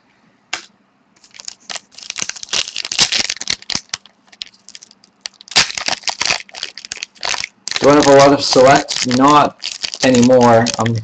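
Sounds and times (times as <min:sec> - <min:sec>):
plastic foil crinkling: 0:01.2 - 0:11.0.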